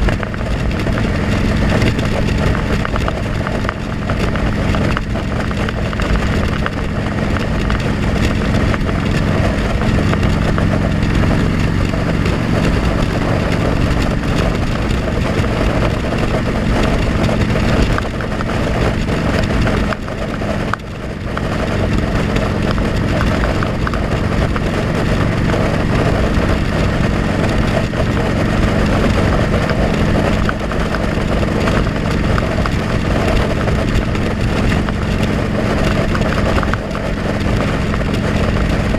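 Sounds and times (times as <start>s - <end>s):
loud wind rush: 0.0s - 38.9s
motorcycle engine running: 0.0s - 38.9s.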